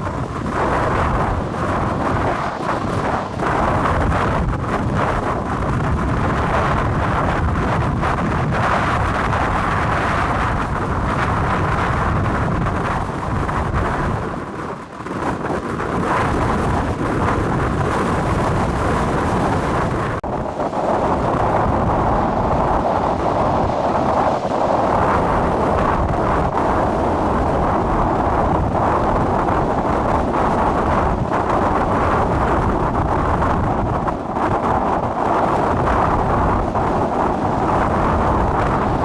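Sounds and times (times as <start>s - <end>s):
rough sea breaking: 0.0s - 39.0s
wind blowing across microphone: 0.0s - 39.0s.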